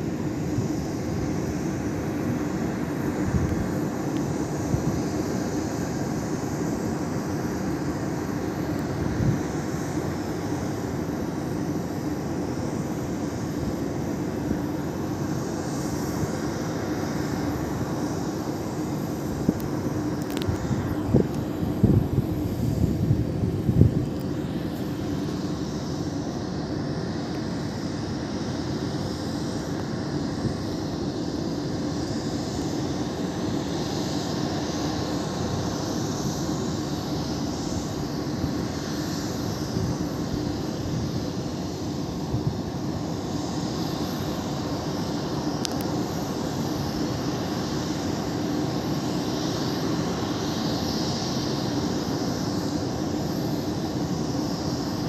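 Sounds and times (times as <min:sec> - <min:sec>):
jet engines humming: 0:00.0 - 0:55.0.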